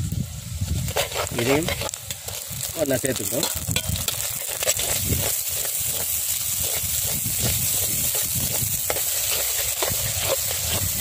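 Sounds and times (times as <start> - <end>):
food sizzling in oil: 0.0 - 11.0
spatula scraping a pot: 0.8 - 2.5, 3.5 - 11.0.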